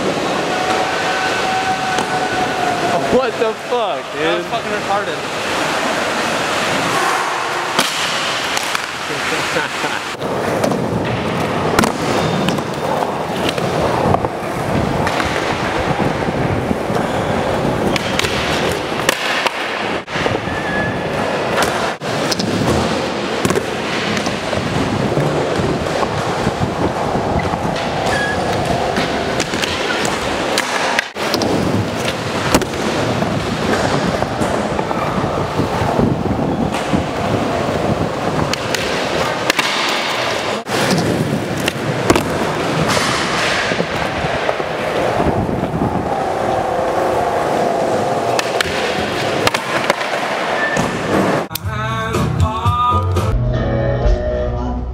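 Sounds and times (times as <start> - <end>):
skateboard wheels rolling on concrete: 0.0 - 51.6.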